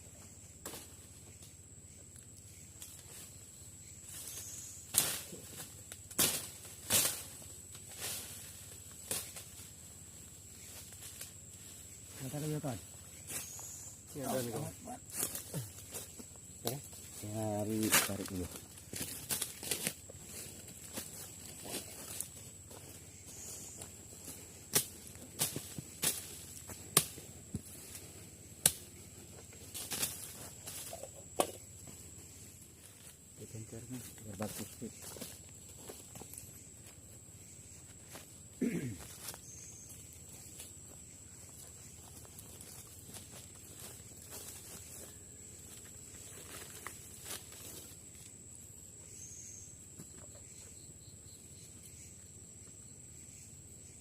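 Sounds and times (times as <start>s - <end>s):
high-pitched insect trill: 0.0s - 54.0s.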